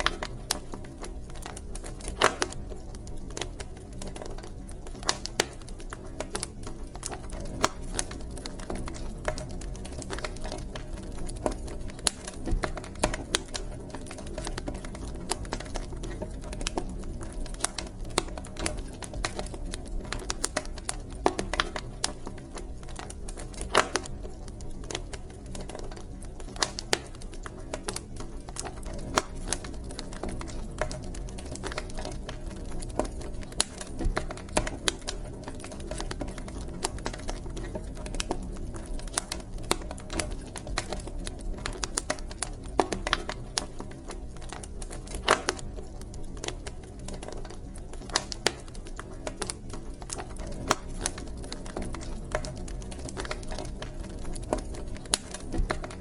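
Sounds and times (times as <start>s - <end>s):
low roar of flames: 0.0s - 56.0s
wood fire crackling and popping: 0.0s - 56.0s.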